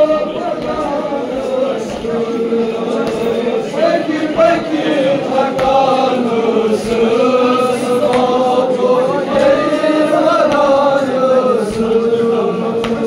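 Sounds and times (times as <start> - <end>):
men chanting a lament: 0.0 - 13.0
chest-beating slaps: 0.5 - 3.7, 4.3 - 8.7, 9.3 - 12.0, 12.8 - 13.0.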